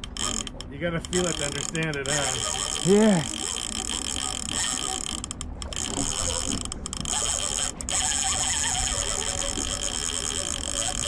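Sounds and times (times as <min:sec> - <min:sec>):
fishing reel drag buzzing: 0:00.0 - 0:11.0.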